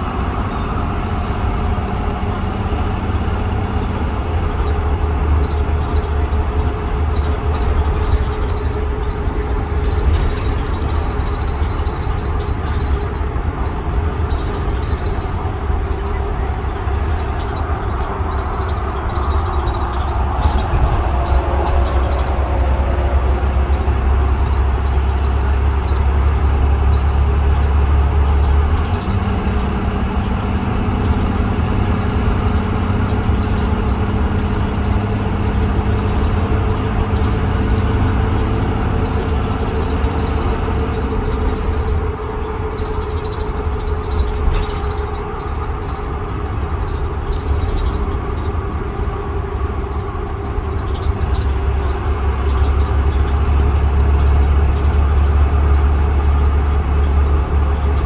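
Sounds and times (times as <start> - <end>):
bus engine rumbling: 0.0 - 58.0.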